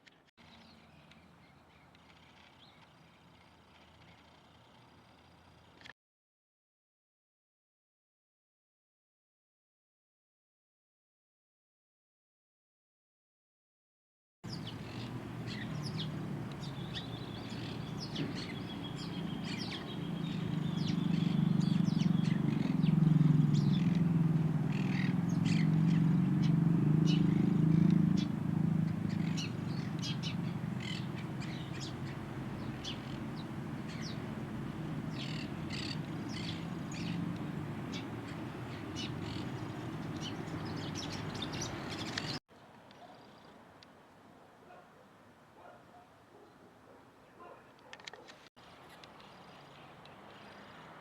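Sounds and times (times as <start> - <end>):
songbirds chirping: 0.0 - 5.9, 14.5 - 51.0.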